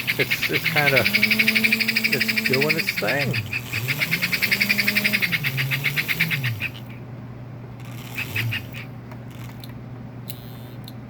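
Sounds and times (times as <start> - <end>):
toy train motor clattering: 0.0 - 6.9, 7.8 - 10.9.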